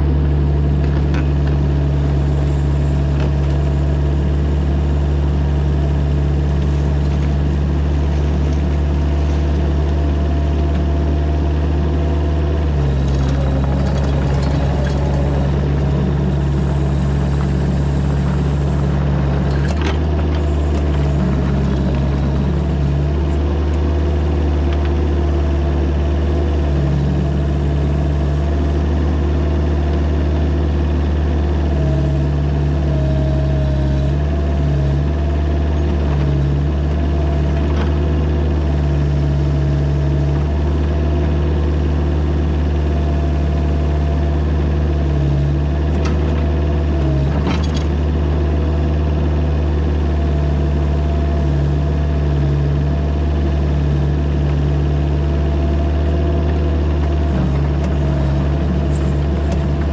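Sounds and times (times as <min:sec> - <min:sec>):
mini excavator engine running: 0:00.0 - 0:59.9.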